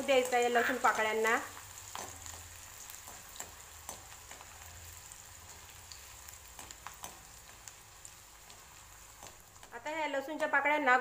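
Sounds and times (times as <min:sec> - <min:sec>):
garlic frying in oil: 0:00.0 - 0:11.0.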